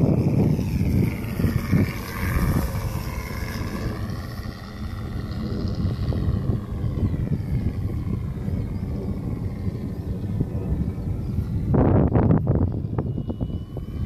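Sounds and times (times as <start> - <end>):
model plane engine flying past: 0.0 - 14.0
propeller noise: 0.0 - 14.0
wind buffeting microphone: 0.0 - 14.0.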